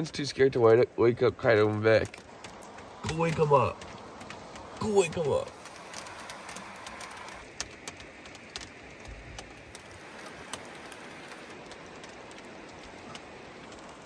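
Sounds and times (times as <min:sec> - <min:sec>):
raindrops ticking close by: 0:00.0 - 0:14.0
steady rain hiss: 0:00.0 - 0:14.0.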